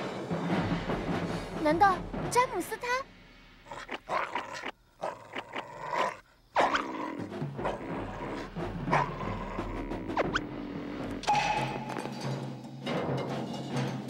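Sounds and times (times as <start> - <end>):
background music: 0.0 - 4.7, 5.8 - 14.0.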